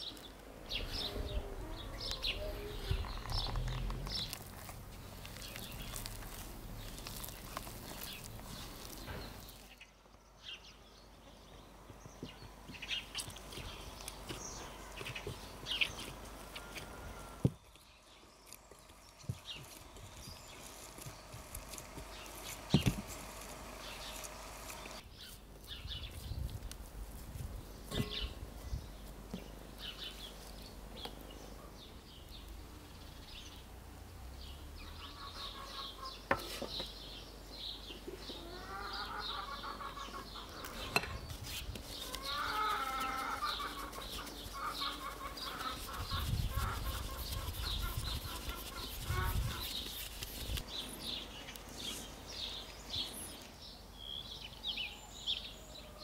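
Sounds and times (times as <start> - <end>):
birds chirping: 0.0 - 26.5, 27.6 - 56.0.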